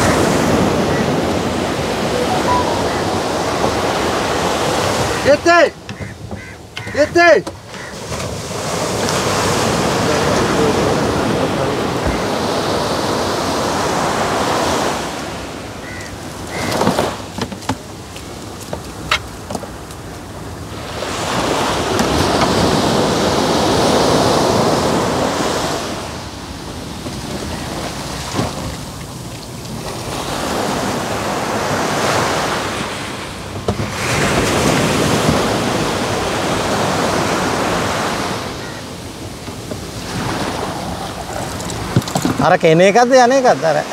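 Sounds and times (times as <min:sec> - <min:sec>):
sea waves breaking on beach: 0:00.0 - 0:43.9.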